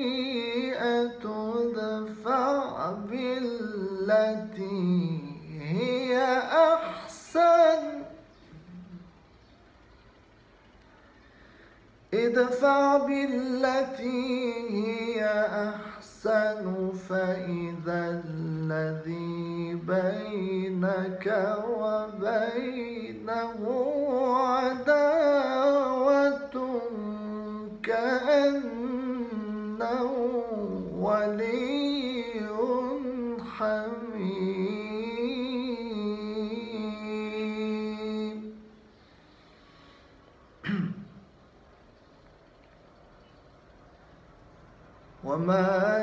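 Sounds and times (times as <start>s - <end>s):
person chanting melodically: 0.0s - 10.4s, 12.1s - 39.3s.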